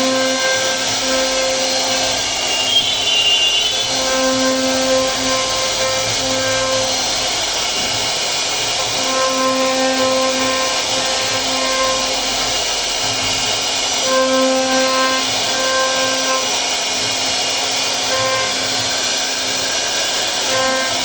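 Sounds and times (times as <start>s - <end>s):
motor whine: 0.0s - 21.0s
router cutter hissing: 0.0s - 21.0s.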